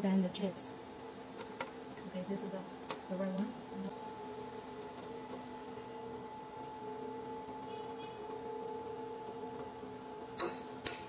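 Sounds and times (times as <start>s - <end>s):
rework station hum: 0.0s - 11.0s.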